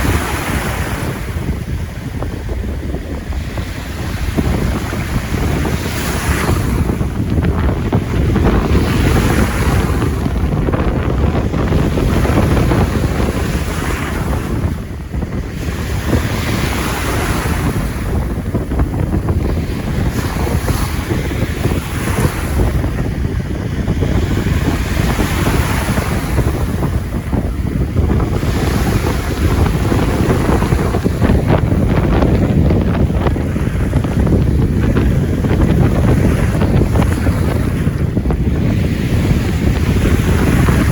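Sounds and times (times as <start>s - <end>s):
sea waves washing onto beach: 0.0s - 40.9s
wind rumble on microphone: 0.0s - 40.9s.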